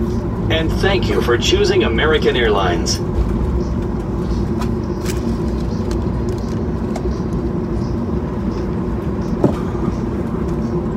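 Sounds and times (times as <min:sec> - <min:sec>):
jet engines idling rumble: 0:00.0 - 0:10.9
steady cabin hum: 0:00.0 - 0:10.9.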